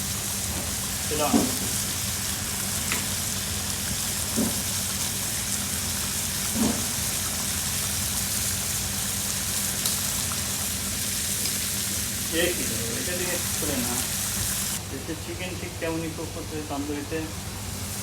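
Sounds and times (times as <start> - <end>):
food sizzling in a pan: 0.0 - 14.8, 16.8 - 18.0
kitchen equipment hum: 0.0 - 18.0.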